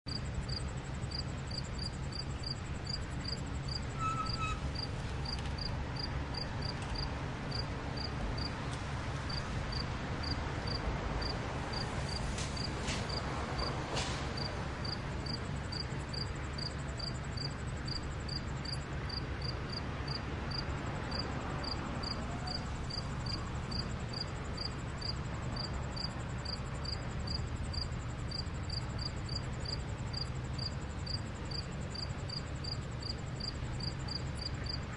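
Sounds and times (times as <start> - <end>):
low city rumble: 0.0 - 34.9
cricket chirping: 0.1 - 8.5, 9.3 - 13.7, 14.4 - 34.9
high insect trill: 0.1 - 8.5, 14.4 - 34.8.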